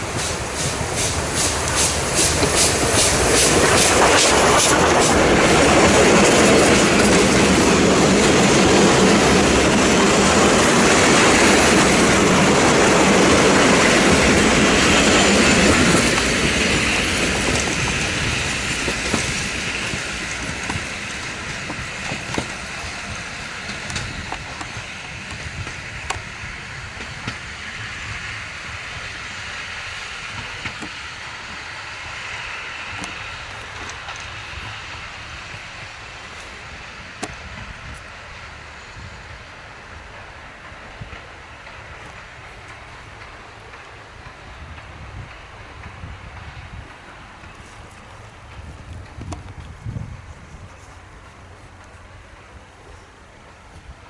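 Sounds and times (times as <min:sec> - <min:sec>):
wheels clicking over rail joints: 0:00.0 - 0:29.2, 0:29.8 - 0:54.0
locomotive exhaust beats: 0:00.0 - 0:54.0
train wheels rolling: 0:00.0 - 0:54.0.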